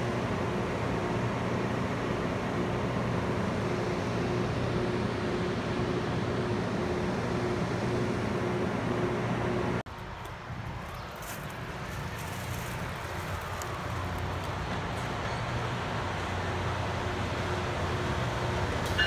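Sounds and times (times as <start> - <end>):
diesel engines humming: 0.0 - 19.0.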